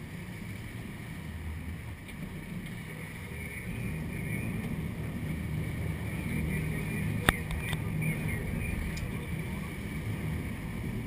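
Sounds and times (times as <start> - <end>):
boat engines rumbling: 0.0 - 11.0
water noise: 0.0 - 11.0
wind: 0.0 - 11.0.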